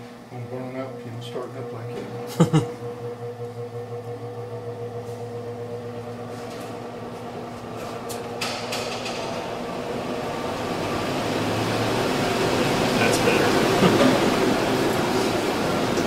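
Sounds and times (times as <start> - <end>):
fan motor hum with rushing air: 0.0 - 16.0.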